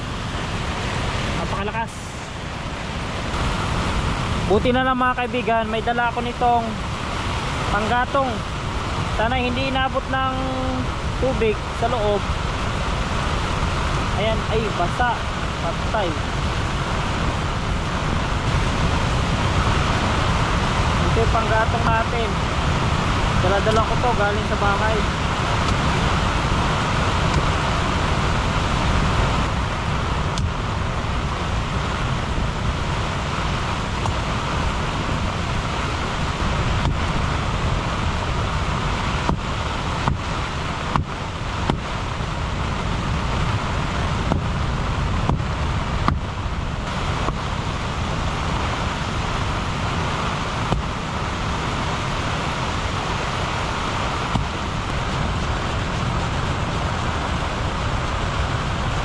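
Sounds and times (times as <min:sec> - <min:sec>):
gusty wind buffeting microphone: 0:00.0 - 0:59.0
rain: 0:00.0 - 0:59.0.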